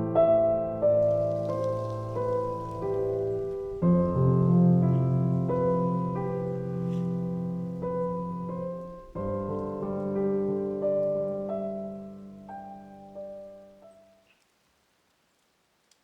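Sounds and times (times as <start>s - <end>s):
soft solo piano music: 0.0s - 14.3s.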